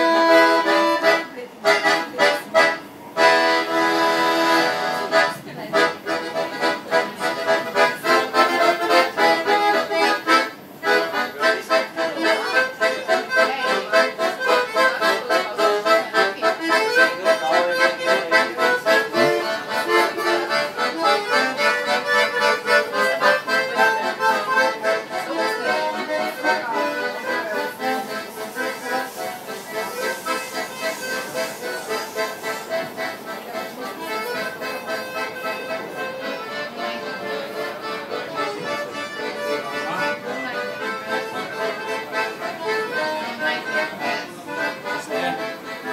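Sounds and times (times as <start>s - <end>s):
accordion playing chords: 0.0s - 45.9s.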